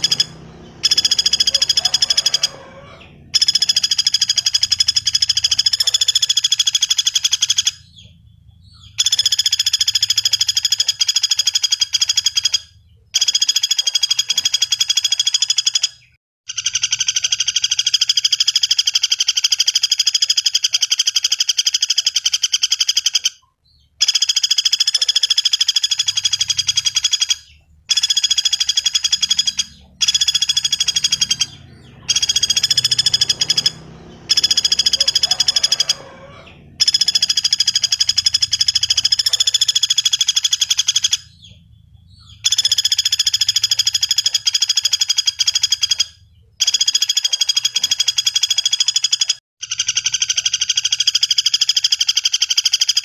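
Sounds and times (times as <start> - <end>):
woodpecker buzzy trill: 0.0 - 53.0.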